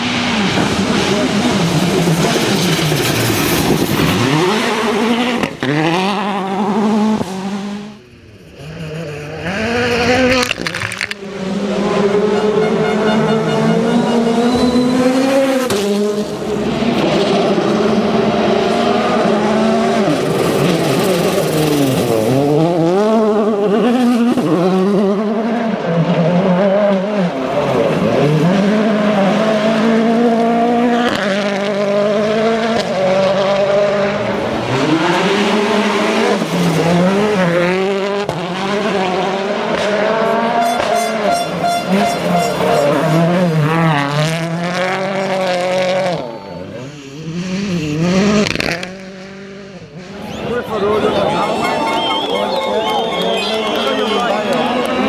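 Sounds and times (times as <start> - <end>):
rally car engines driven hard: 0.0 - 55.0.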